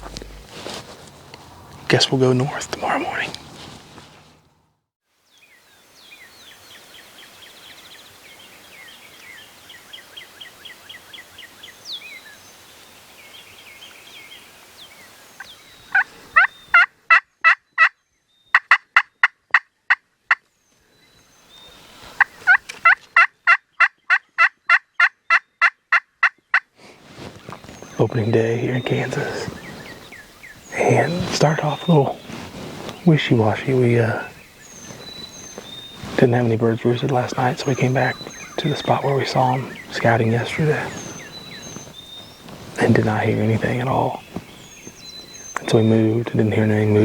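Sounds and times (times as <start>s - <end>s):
songbird chirps: 0.0s - 4.6s, 5.2s - 16.8s, 20.3s - 23.1s, 26.3s - 47.0s.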